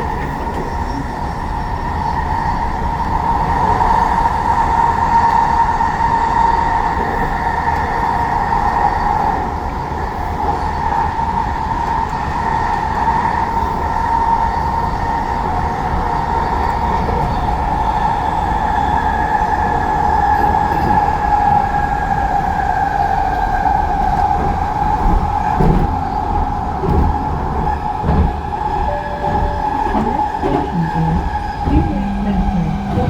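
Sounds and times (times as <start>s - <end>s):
train rumble: 0.0s - 33.0s
train whine: 0.0s - 33.0s.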